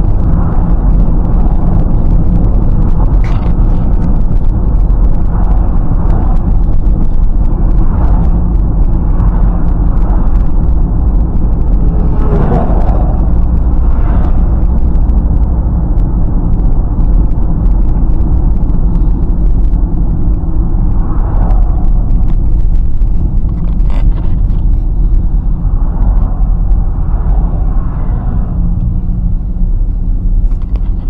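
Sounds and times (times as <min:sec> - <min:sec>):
car tyre and road noise: 0:00.0 - 0:31.0.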